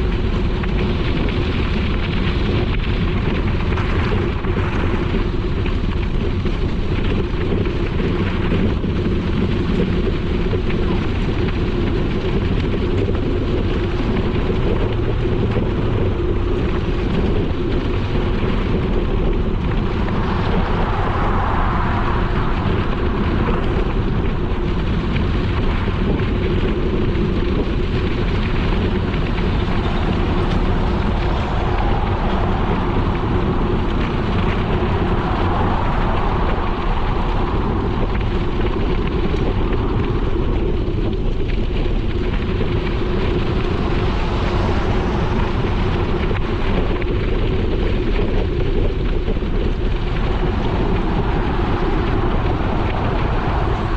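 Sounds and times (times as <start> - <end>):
wind on microphone: 0.0 - 53.9.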